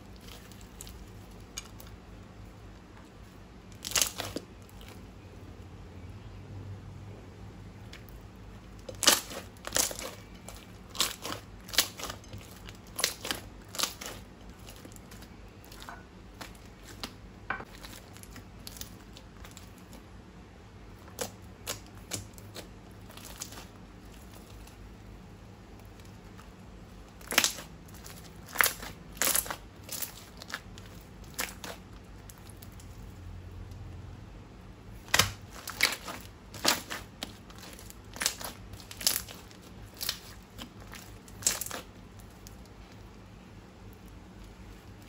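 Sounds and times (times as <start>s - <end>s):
crunchy slime crackling: 0.0s - 5.5s, 7.8s - 20.2s, 20.8s - 33.8s, 34.9s - 45.0s.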